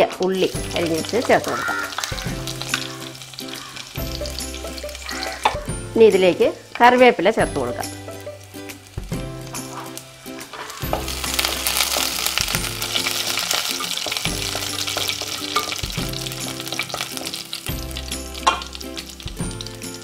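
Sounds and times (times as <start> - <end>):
shallots sizzling in hot oil: 0.0 - 20.0.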